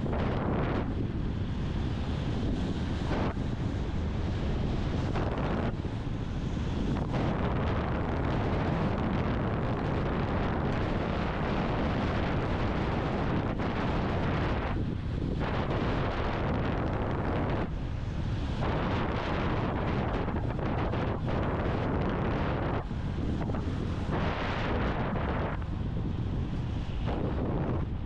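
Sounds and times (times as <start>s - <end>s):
road noise: 0.0s - 28.0s
wind roaring over microphone: 0.0s - 28.0s.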